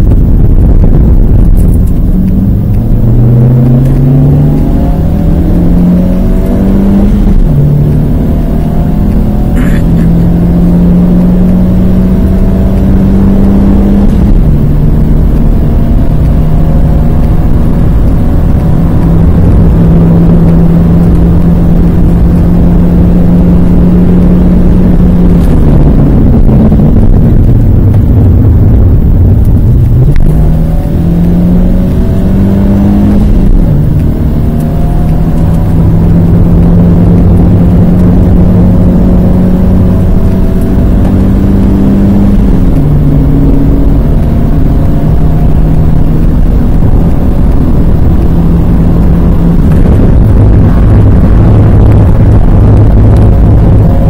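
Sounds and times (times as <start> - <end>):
car engine accelerating hard: 0.0 - 54.0
road and wind rumble: 0.0 - 54.0.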